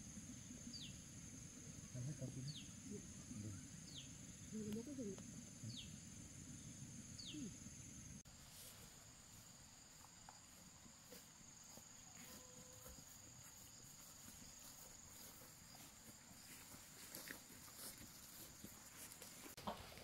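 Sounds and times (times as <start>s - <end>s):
insects chirring: 0.0s - 19.6s.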